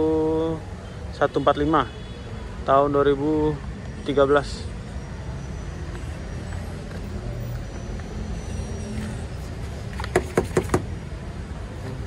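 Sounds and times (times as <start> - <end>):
vehicles rumbling: 0.0 - 12.0.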